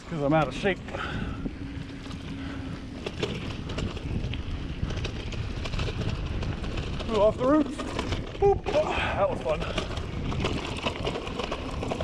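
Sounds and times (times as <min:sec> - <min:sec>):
bike clicks and rattles: 0:00.0 - 0:12.0
tyre and wind rumble: 0:00.0 - 0:12.0.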